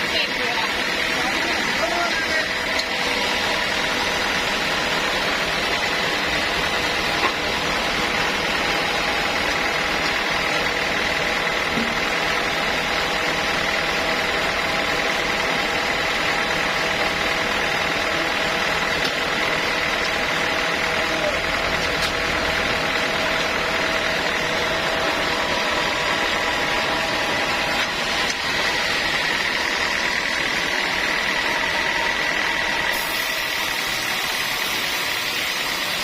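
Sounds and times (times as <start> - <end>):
sawmill machinery drone: 0.0 - 36.0.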